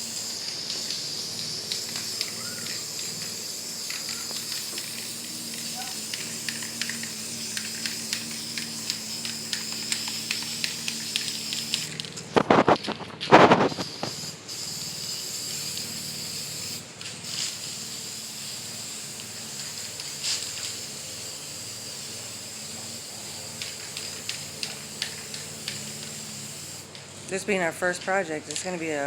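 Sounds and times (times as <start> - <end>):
spray paint hissing: 0.0 - 29.0.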